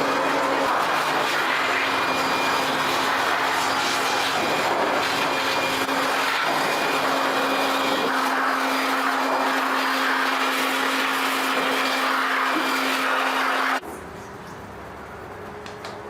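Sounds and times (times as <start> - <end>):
whirring machine: 0.0 - 16.0.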